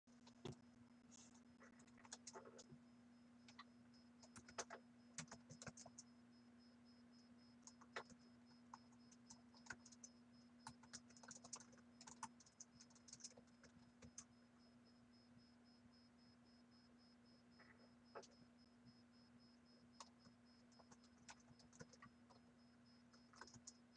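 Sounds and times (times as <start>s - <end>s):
low steady hum: 0.1s - 23.9s.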